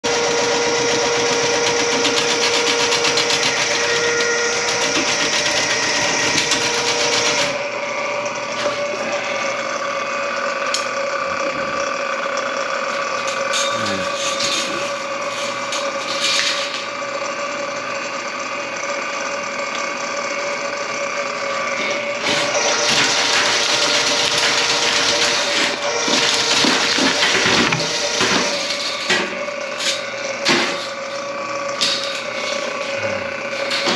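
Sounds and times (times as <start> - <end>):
small electric motor running: 0.0 - 33.9.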